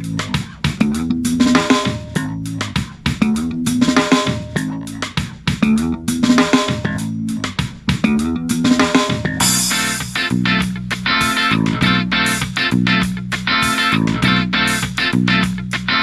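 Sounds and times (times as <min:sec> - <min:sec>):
song with drums and guitar: 0:00.0 - 0:16.0.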